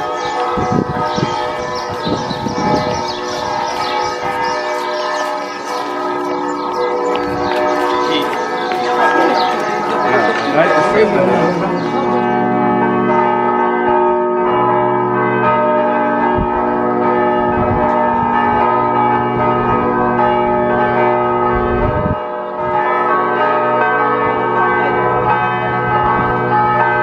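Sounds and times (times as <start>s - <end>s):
church bells pealing: 0.0s - 27.0s.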